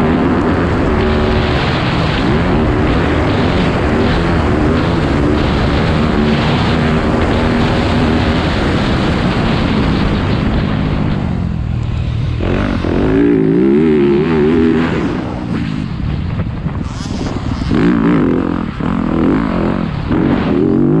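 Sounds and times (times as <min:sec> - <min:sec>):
dirt bike engine running: 0:00.0 - 0:21.0
steady rushing noise: 0:00.0 - 0:21.0.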